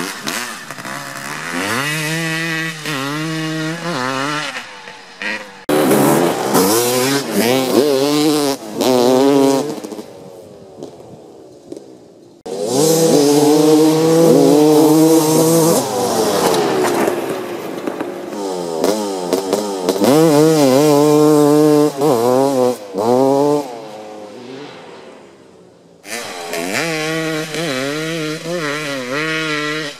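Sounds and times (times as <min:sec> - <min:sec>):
dirt bike engines revving: 0:00.0 - 0:29.9.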